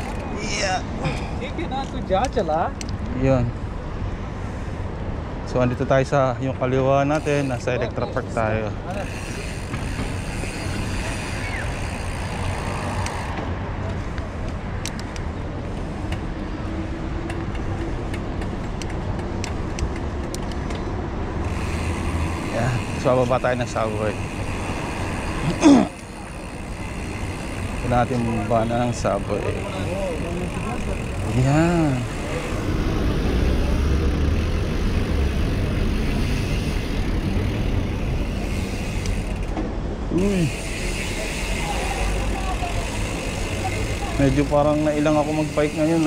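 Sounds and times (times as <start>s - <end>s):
bicycle ticks and rattles: 0.0s - 3.5s, 4.4s - 46.0s.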